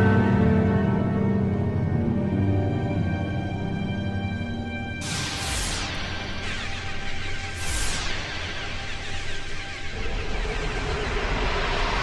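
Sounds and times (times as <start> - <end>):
ominous film score music: 0.0 - 12.0.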